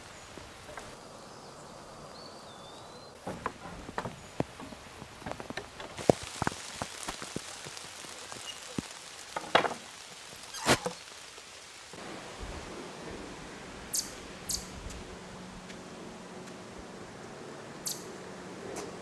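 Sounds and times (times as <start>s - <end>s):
rain drips and ticks: 0.0s - 1.3s, 3.2s - 19.0s
light rain hiss: 0.0s - 19.0s.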